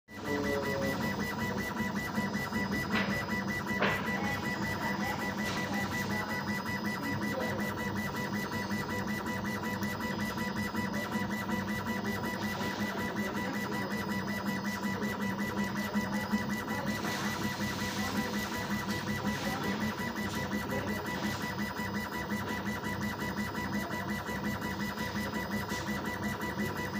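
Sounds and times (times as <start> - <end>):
laser cutter motors whining: 0.1 - 26.9.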